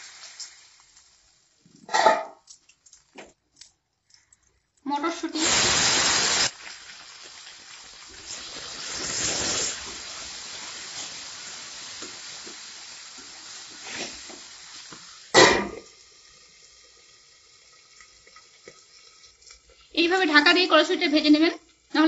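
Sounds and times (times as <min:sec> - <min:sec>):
peas sizzling in hot oil: 0:00.0 - 0:03.3, 0:04.8 - 0:22.0.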